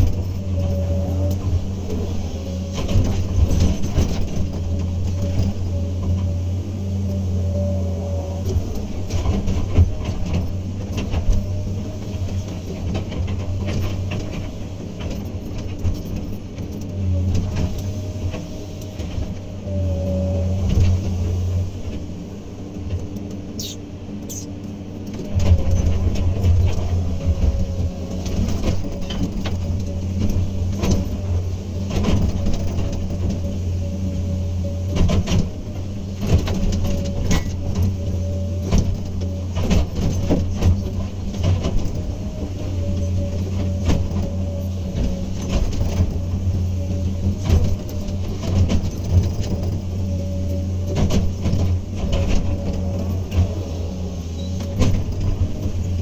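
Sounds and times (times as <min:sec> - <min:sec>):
excavator diesel engine running: 0:00.0 - 0:56.0
faint whine: 0:00.0 - 0:56.0.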